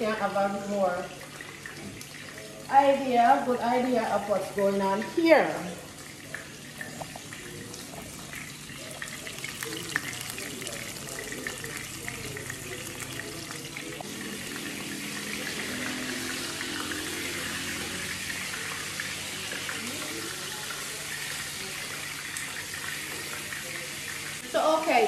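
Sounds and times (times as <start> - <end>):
patties sizzling in frying pan: 0.0 - 25.0.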